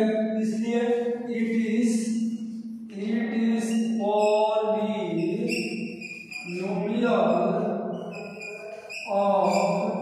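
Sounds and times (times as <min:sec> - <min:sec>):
man chanting in sing-song voice: 0:00.0 - 0:02.1, 0:02.9 - 0:05.6, 0:06.4 - 0:10.0.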